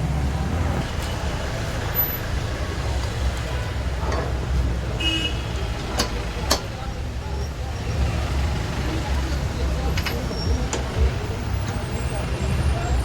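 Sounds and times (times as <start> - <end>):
heavy vehicle engines running: 0.0 - 13.0
traffic rumble: 0.0 - 13.0.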